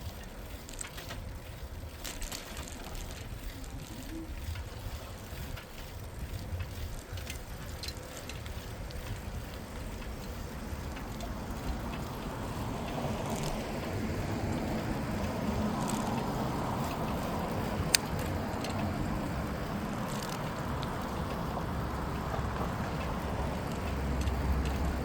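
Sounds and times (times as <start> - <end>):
light bicycle clicks: 0.0 - 25.0
traffic rush: 0.0 - 25.0
wind rumble on microphone: 0.0 - 25.0.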